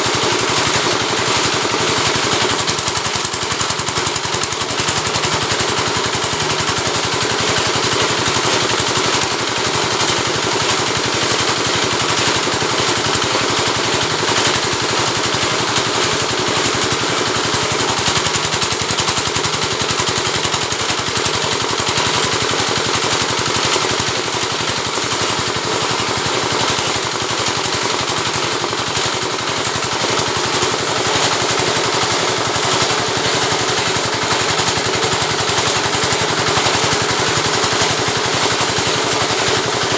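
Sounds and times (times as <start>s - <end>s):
machine rattling: 0.0s - 39.9s.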